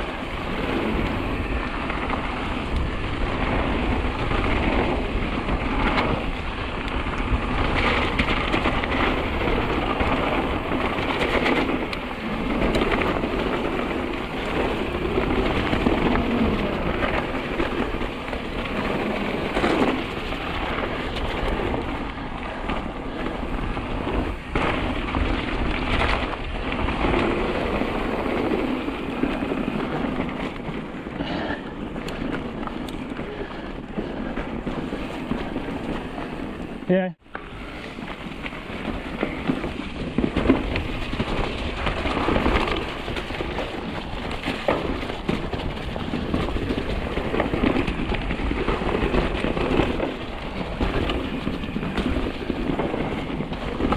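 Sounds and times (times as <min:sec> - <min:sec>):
bike knocking and rattling: 0:00.0 - 0:53.9
bike tyres on rough ground: 0:00.0 - 0:53.9
wind on microphone: 0:00.0 - 0:53.9.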